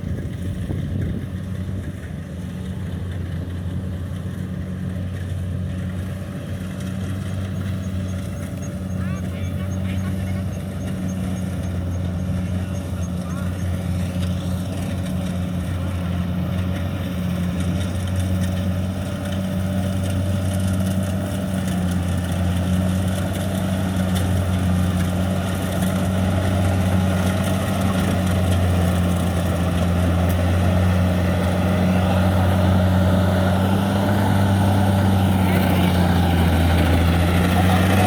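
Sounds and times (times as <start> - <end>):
combine harvester engine hum: 0.0 - 38.0.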